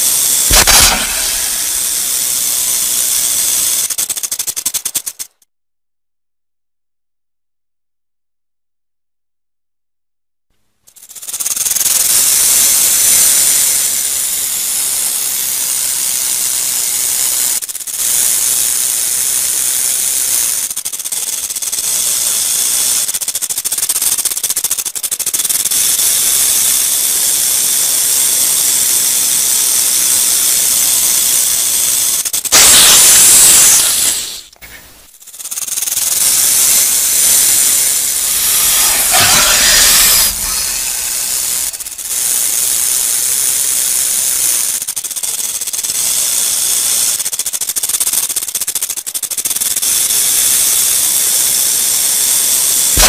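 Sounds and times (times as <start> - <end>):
rattlesnake tail rattle buzzing: 0.0 - 5.4, 10.8 - 53.0.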